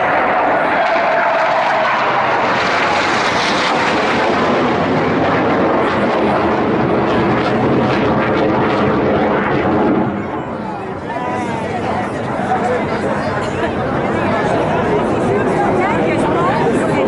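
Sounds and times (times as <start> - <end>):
jet aircraft flying overhead: 0.0 - 17.0.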